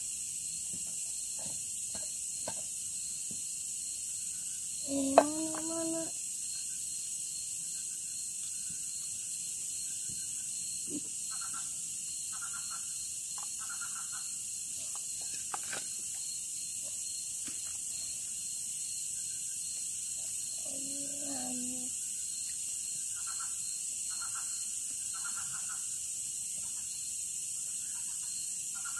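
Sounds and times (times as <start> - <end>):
crickets chirping: 0.0 - 28.9.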